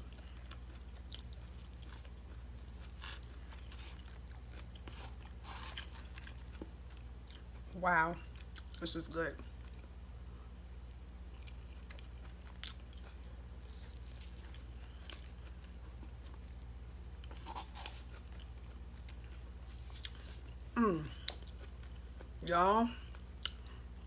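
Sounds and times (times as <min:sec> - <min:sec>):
person chewing: 0:00.0 - 0:08.8, 0:09.4 - 0:22.4, 0:23.0 - 0:24.0.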